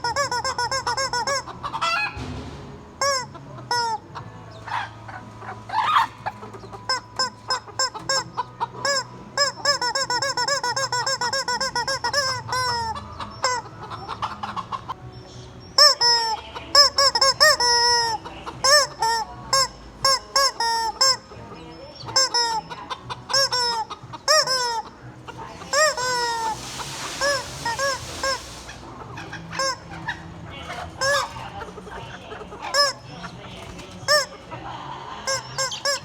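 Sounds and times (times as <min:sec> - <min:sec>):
rubber chicken toy squealing: 0:00.0 - 0:02.2, 0:03.0 - 0:05.0, 0:05.7 - 0:14.9, 0:15.8 - 0:21.3, 0:22.0 - 0:33.2, 0:34.0 - 0:34.4, 0:35.2 - 0:36.0.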